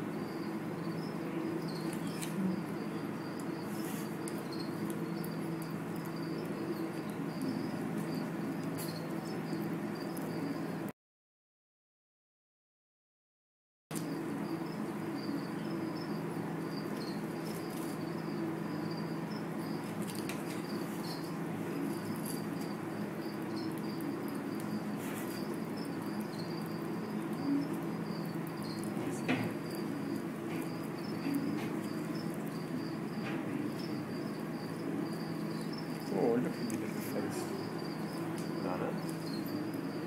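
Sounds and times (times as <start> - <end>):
steady low hum: 0.0 - 10.9, 13.9 - 40.0.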